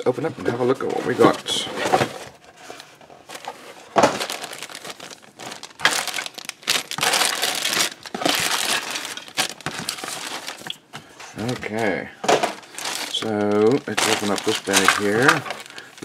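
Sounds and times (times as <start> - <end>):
plastic bags crinkling: 0.6 - 16.0.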